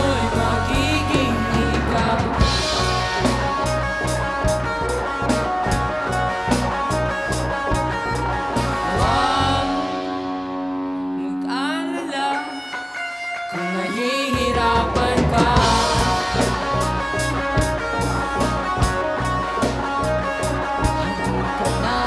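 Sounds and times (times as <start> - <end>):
drum kit beat: 0.0 - 10.9, 14.4 - 22.0
pop-rock band playing live: 0.0 - 22.0.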